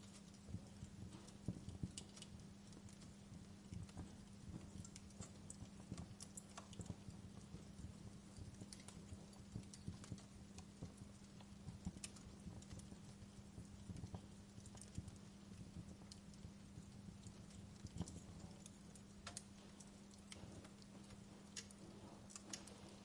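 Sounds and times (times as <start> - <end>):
fire crackling: 0.0 - 23.0
steady low hum: 0.0 - 23.0.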